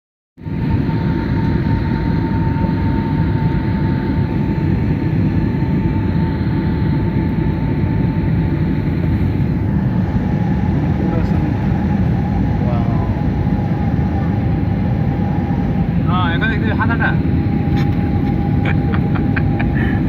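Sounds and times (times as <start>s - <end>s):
low rumble of engines and airflow: 0.4s - 20.0s
thin steady whine: 0.4s - 20.0s.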